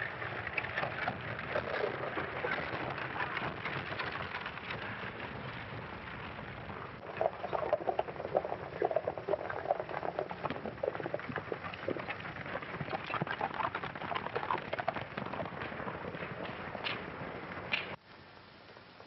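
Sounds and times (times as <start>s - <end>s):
horses galloping hoofbeats: 0.0s - 18.0s.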